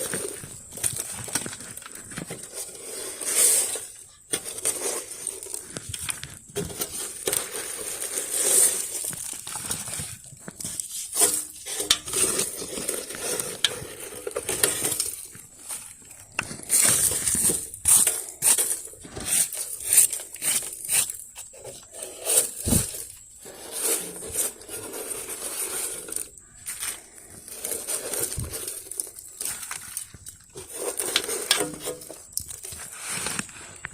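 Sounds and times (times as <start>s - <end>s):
wet leaves scraped from gutter: 1.0s - 33.8s.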